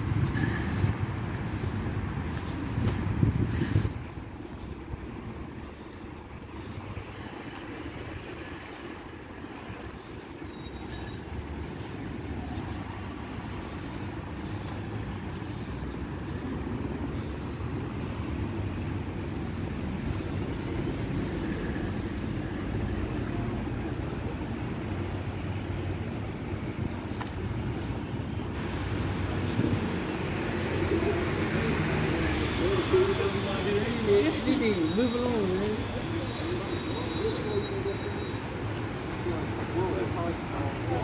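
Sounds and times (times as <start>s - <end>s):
road traffic rumbling: 0.0s - 41.0s.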